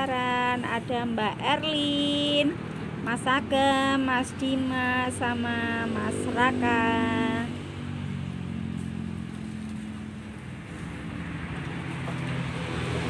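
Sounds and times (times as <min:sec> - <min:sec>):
road traffic engine hum: 0:00.0 - 0:13.0.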